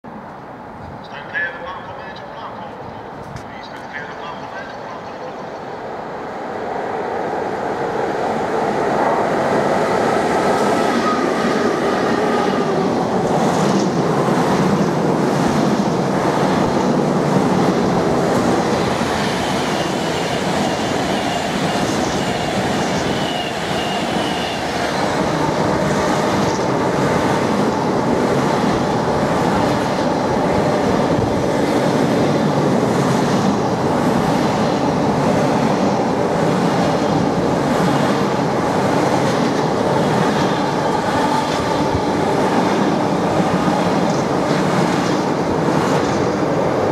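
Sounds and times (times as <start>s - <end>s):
freight train passing: 0.1s - 46.9s.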